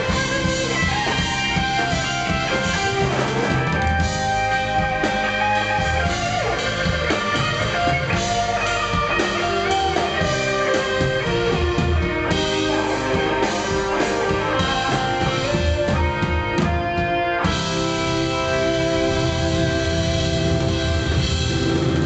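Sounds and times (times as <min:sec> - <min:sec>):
drum kit beat: 0:00.0 - 0:22.0
electric guitar notes bending: 0:00.0 - 0:22.0.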